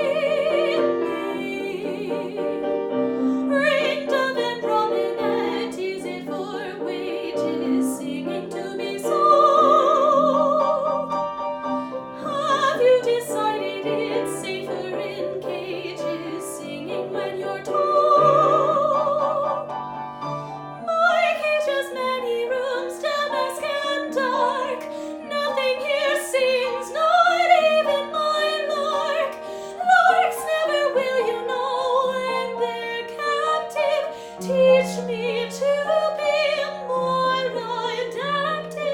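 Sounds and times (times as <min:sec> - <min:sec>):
soprano singing: 0:00.0 - 0:38.9.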